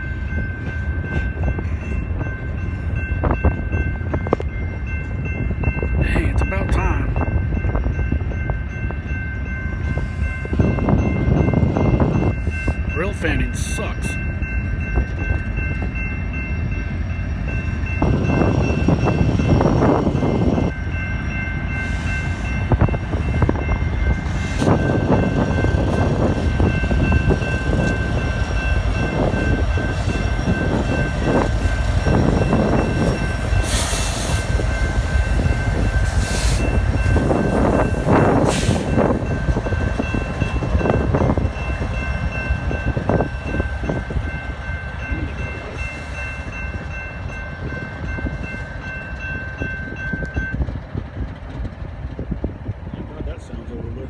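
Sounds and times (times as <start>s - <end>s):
wind noise on microphone: 0.0s - 12.9s, 14.3s - 53.4s
steady high ringing tone: 0.0s - 50.7s
freight train rumbling by: 0.0s - 54.0s.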